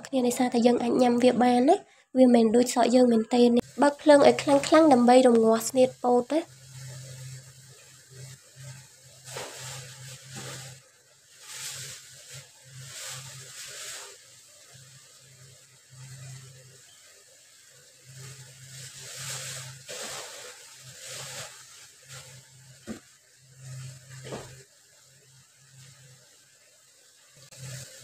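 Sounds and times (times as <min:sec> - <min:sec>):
sauce boiling in a wok: 0:03.6 - 0:28.0.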